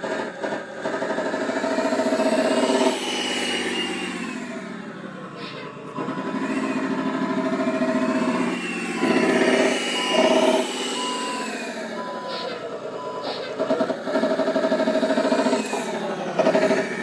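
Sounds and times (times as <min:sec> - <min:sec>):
diesel engine revving from speaker: 0:00.0 - 0:17.0.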